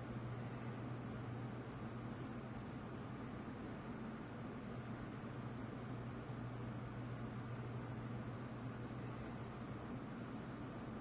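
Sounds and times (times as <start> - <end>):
low constant hum: 0.0 - 11.0
steady background hiss: 0.0 - 11.0.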